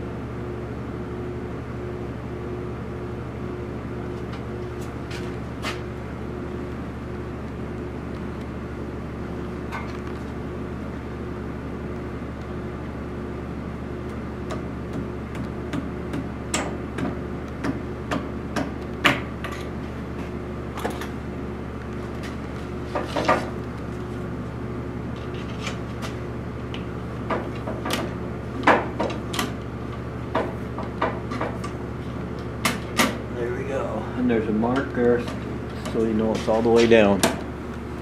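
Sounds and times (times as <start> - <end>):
workshop background hum: 0.0 - 38.0.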